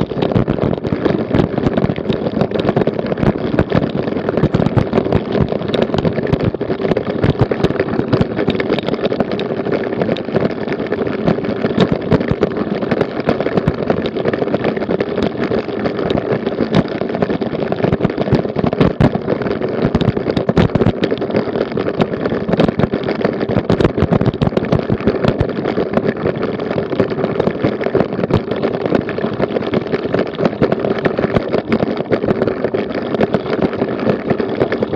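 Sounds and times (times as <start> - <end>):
bicycle rattling over cobblestones: 0.0 - 34.9.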